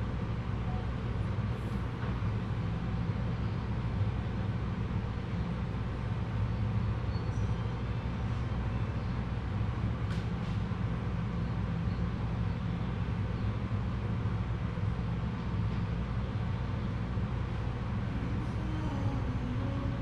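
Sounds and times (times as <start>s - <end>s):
low rumbling room hum: 0.0s - 20.0s.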